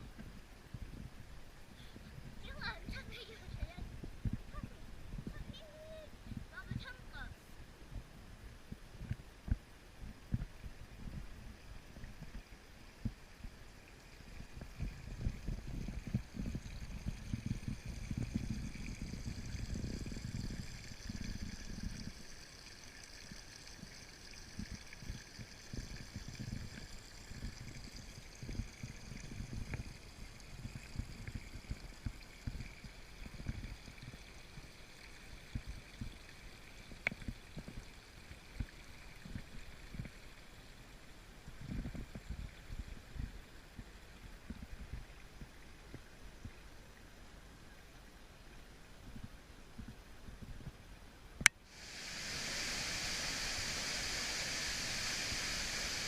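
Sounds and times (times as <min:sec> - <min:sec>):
stream water flowing: 0:00.0 - 0:50.2, 0:51.4 - 0:56.0.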